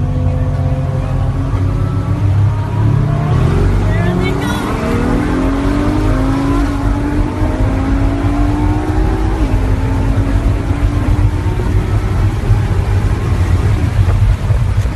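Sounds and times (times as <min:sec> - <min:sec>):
engine accelerating: 0:00.0 - 0:14.9
heavy low rumble: 0:00.0 - 0:14.9.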